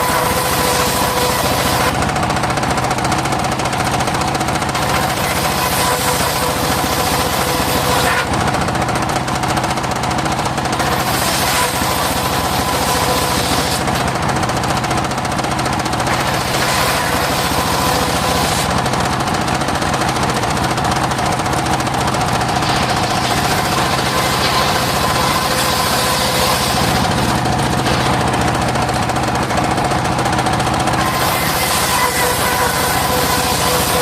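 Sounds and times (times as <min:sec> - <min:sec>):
engine-driven circular sawmill: 0:00.0 - 0:34.0.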